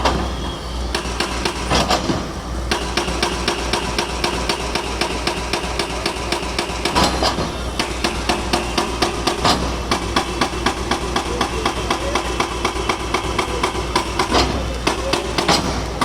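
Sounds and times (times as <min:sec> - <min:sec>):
hammer blows on concrete: 0:00.0 - 0:16.0.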